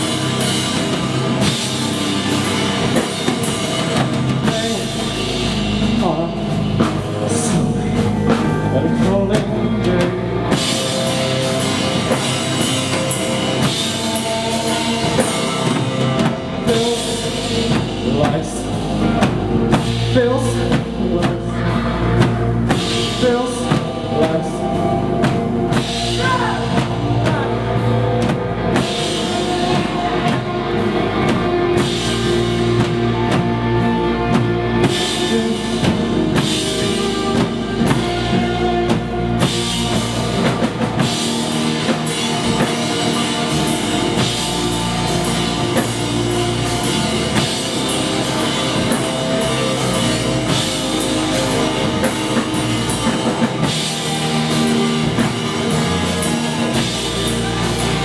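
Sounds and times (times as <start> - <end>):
bass guitar: 0.0 - 58.0
drum kit with cymbals: 0.0 - 58.0
electric guitars: 0.0 - 58.0.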